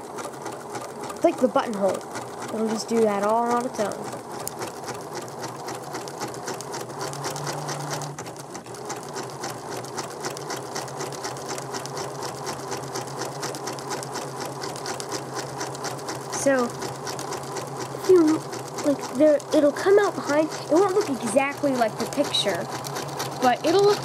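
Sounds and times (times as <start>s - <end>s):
sewing machine stitching: 0.0s - 24.0s.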